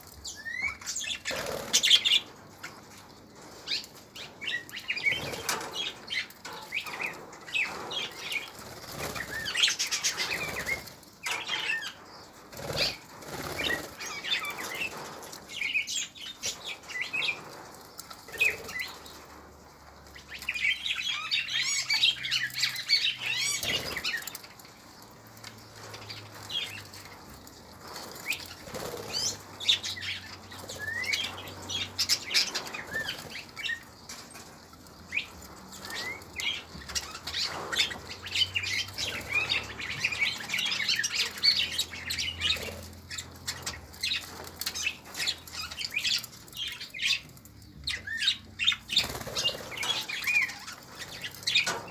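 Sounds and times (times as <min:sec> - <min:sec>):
wings fluttering: 0:00.2 - 0:19.4, 0:21.6 - 0:47.4, 0:48.1 - 0:51.9.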